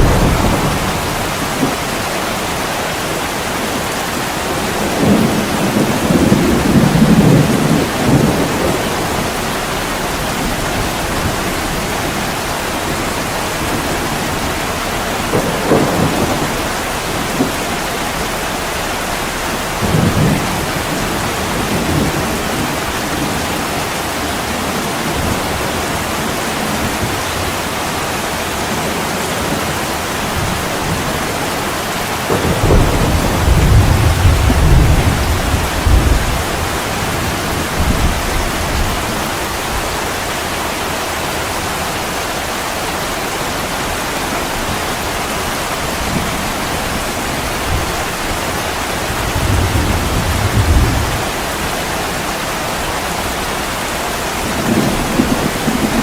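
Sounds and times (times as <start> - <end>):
heavy rain on a window: 0.0 - 56.0
thunder rumbling: 0.0 - 56.0.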